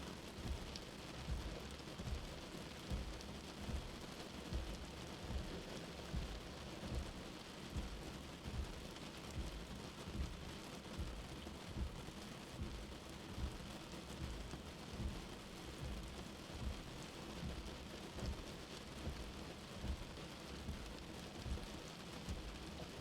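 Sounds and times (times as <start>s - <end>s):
soft low heartbeat: 0.0s - 23.0s
steady rain: 0.0s - 23.0s.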